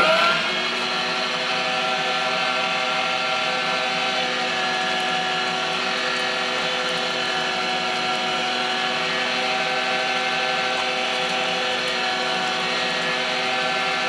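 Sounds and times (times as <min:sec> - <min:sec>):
meat grinder motor humming: 0:00.0 - 0:14.0.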